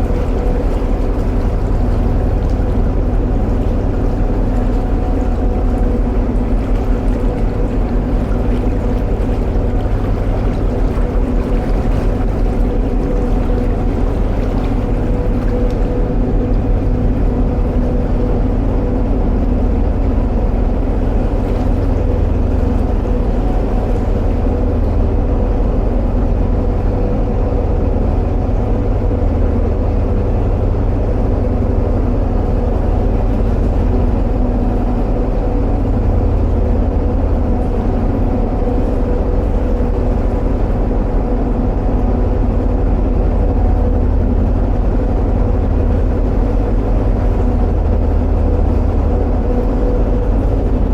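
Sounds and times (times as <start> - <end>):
diesel boat engine running: 0.0 - 50.9.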